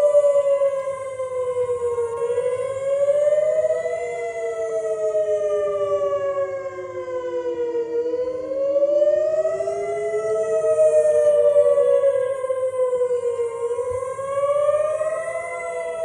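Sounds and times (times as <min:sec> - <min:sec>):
warning siren wailing: 0:00.0 - 0:16.0.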